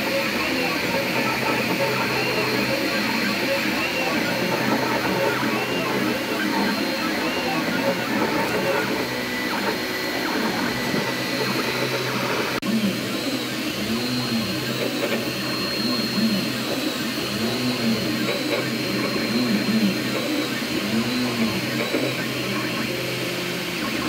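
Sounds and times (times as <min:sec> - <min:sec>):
cooling fans whirring: 0:00.0 - 0:24.0
stepper motors whining: 0:00.0 - 0:24.0.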